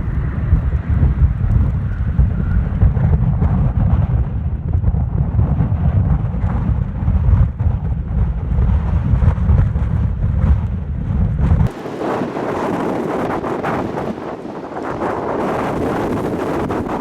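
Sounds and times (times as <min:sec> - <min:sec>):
hissing wind rush: 0:00.0 - 0:17.0
wind buffeting microphone: 0:00.0 - 0:17.0.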